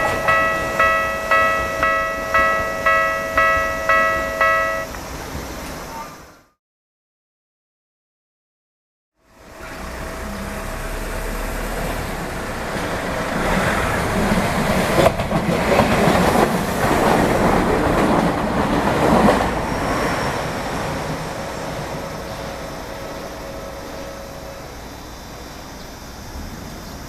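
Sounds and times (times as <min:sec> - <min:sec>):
train wheels clattering over rails: 0:00.0 - 0:04.8, 0:09.4 - 0:27.0.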